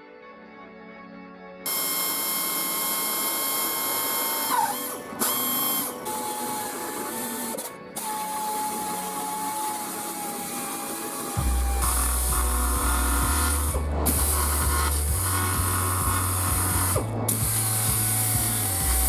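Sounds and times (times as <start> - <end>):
power tool whining: 1.7 - 19.0.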